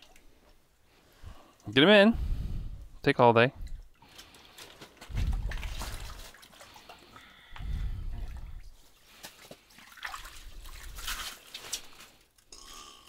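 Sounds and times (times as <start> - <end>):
water sloshing and dripping: 0.0 - 1.9, 2.7 - 12.5.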